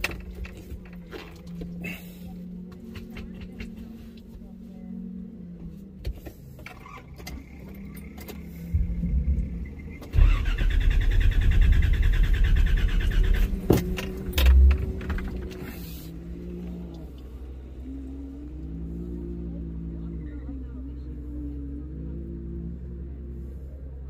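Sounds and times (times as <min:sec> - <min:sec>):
engine idling: 0:00.0 - 0:24.0
loud low rumble with rattle: 0:00.0 - 0:24.0.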